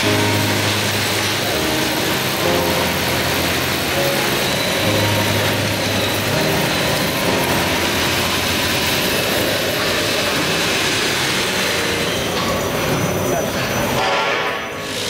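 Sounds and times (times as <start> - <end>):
machine line running: 0.0 - 15.0.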